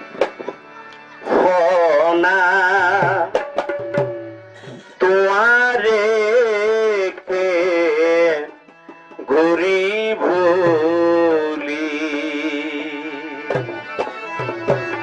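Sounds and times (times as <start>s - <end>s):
drums: 0.0s - 15.0s
man singing with vibrato: 1.2s - 14.0s.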